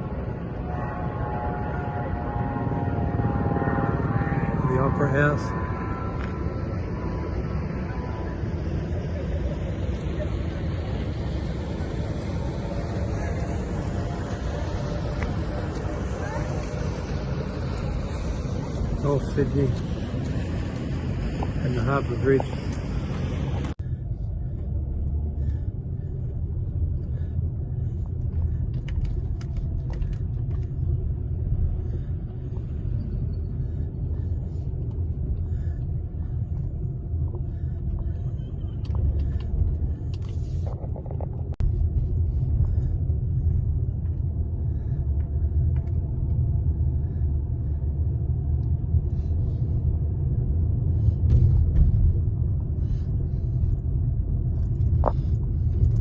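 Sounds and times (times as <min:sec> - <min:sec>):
vehicle low rumble: 0:00.0 - 0:56.0.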